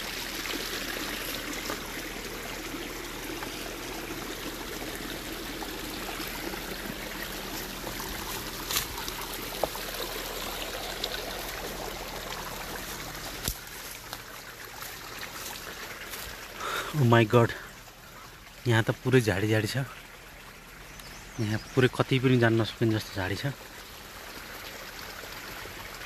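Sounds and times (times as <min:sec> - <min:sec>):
stream trickling: 0:00.0 - 0:26.0.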